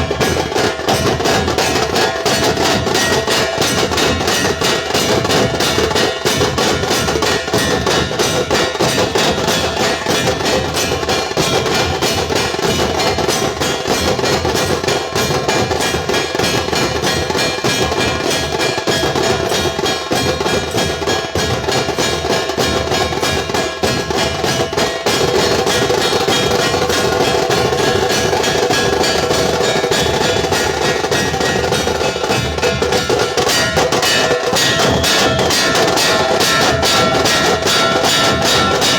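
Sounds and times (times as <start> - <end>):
dhol drum beats: 0.0 - 38.9
rapid drum strokes: 0.0 - 38.9.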